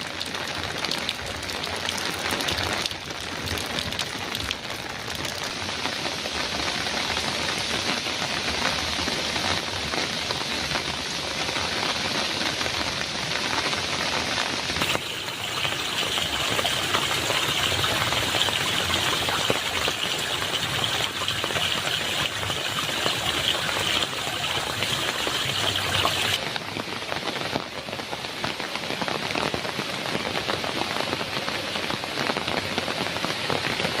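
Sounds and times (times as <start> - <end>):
heavy rain on a metal roof: 0.0 - 34.0.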